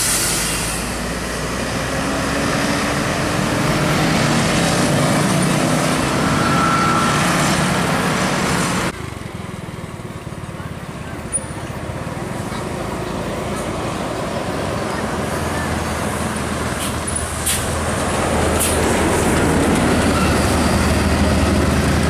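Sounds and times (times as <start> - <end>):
bus diesel engine: 0.0 - 22.0
road traffic: 0.0 - 22.0.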